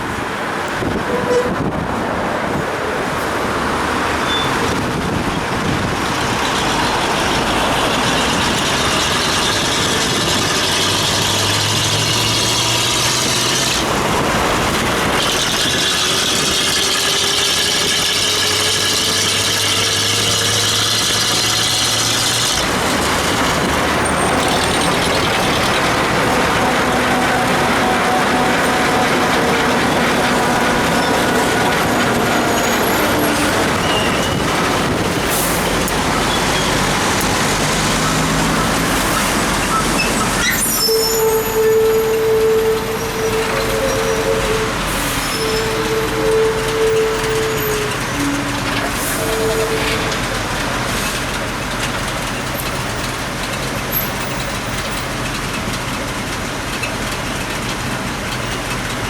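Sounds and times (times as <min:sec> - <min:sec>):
passing vehicle engines: 0:00.0 - 0:59.0
tyres hissing on wet road: 0:01.9 - 0:59.0.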